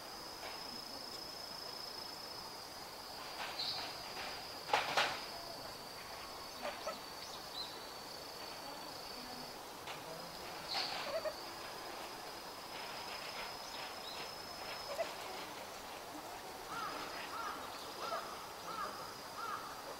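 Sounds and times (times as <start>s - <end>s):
insect trill: 0.0s - 19.9s.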